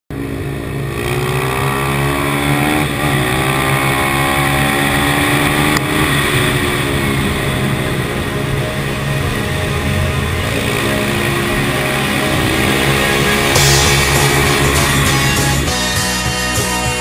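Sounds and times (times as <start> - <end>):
motorcycle engine accelerating: 0.1 - 17.0.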